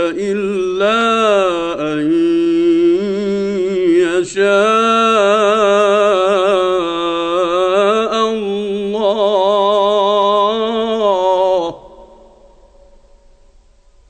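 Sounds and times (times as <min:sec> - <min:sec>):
man reciting in melodic chant: 0:00.0 - 0:12.9.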